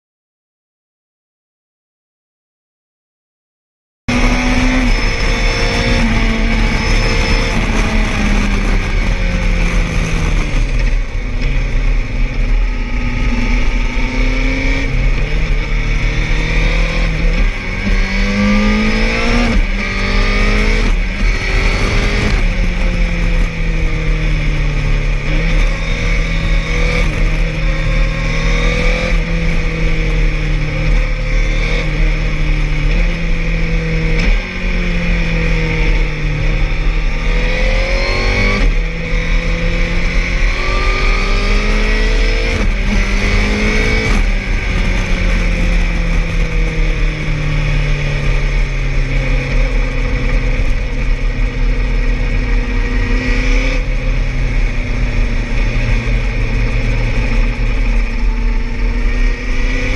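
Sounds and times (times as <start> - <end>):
motorcycle engine revving: 4.1 - 59.9
wind noise: 4.1 - 59.9.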